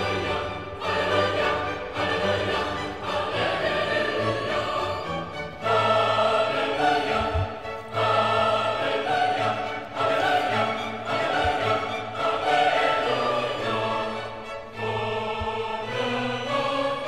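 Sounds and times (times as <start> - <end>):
classical choral music: 0.0 - 17.0.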